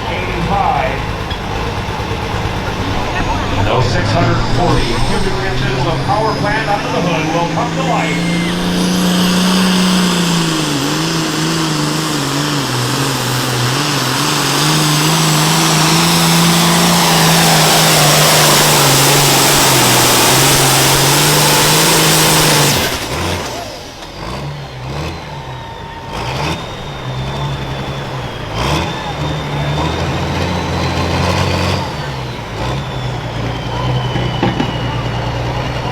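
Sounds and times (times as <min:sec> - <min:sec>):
diesel engine under load: 0:00.0 - 0:35.9.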